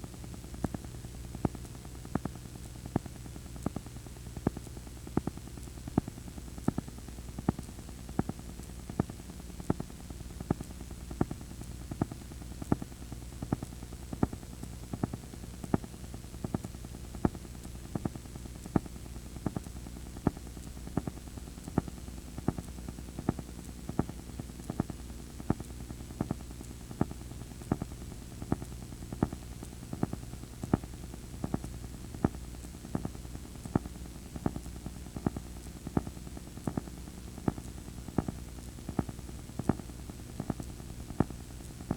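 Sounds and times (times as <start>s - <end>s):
low hum and hiss: 0.0s - 41.9s.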